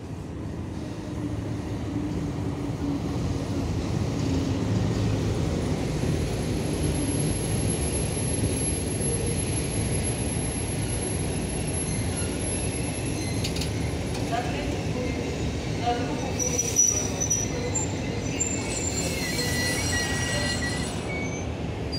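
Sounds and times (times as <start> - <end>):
train wheels rumbling on rail joints: 0.0 - 21.9.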